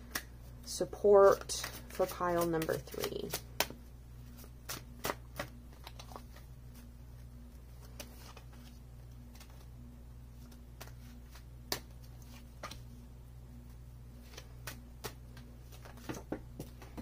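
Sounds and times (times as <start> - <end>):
faint low hum: 0.0 - 17.0
cards being shuffled: 1.3 - 6.9, 7.5 - 9.7, 10.3 - 13.0, 13.7 - 17.0.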